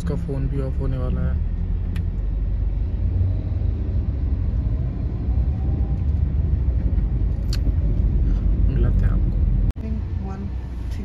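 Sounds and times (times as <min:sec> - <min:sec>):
car driving rumble: 0:00.0 - 0:11.0.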